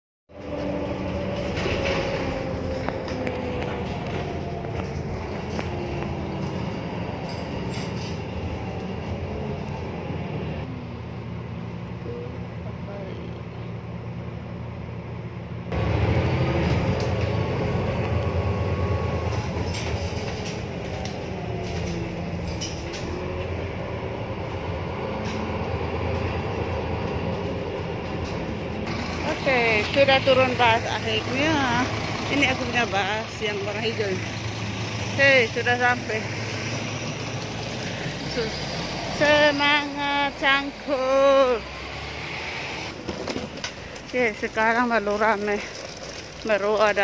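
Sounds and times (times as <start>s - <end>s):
bus engine and road noise: 0.3s - 47.0s.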